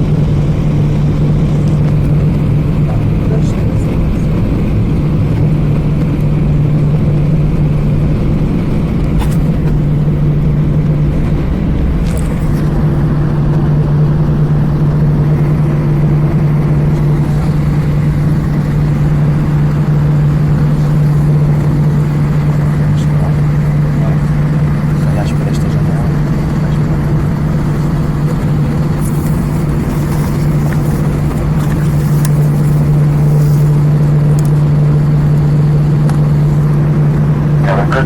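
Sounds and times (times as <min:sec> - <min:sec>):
jet engines running at low thrust: 0:00.0 - 0:38.0.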